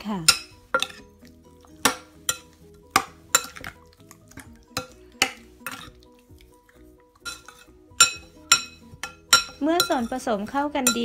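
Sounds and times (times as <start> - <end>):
spoon clinking against glass bowl: 0.3 - 3.8, 4.4 - 6.0, 7.2 - 11.0.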